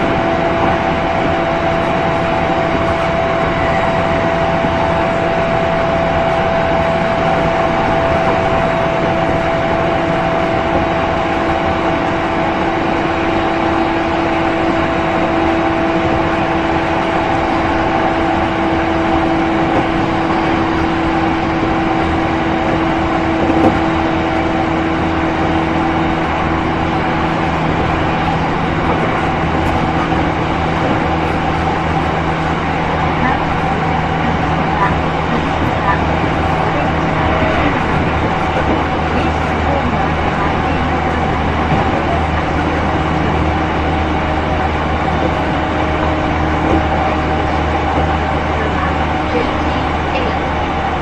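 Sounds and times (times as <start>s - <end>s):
traction motor whine: 0.0s - 51.0s
wheel and rail rumble: 0.0s - 51.0s.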